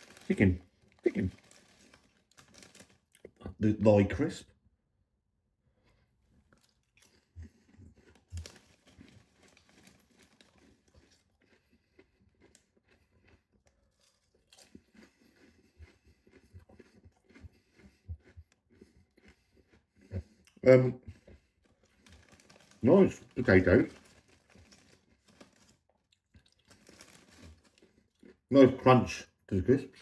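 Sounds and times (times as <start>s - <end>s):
crisp being bitten and chewed: 0.0s - 3.6s, 6.3s - 28.8s.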